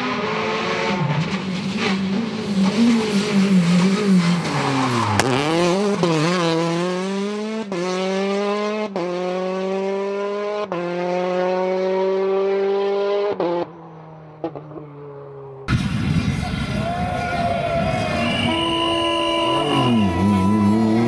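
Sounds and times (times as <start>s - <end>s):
rally car engine revving: 0.0s - 14.9s, 18.1s - 21.0s.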